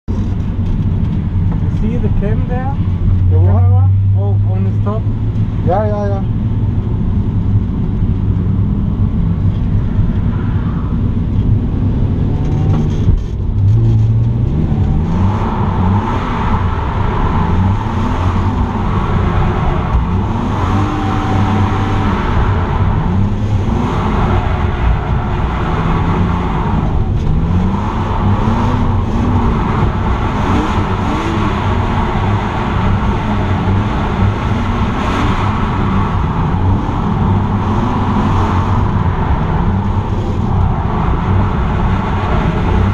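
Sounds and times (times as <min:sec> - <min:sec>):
constant engine drone: 0:00.0 - 0:42.9
car engine revving: 0:00.1 - 0:42.9.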